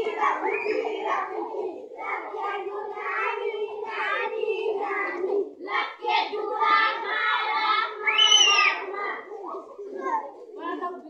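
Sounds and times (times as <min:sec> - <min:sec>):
children singing and chanting: 0:00.0 - 0:11.0.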